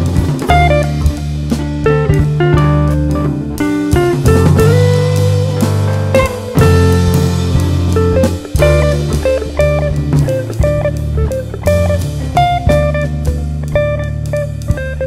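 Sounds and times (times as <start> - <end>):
plucked guitar with bass and drums: 0.0 - 15.0.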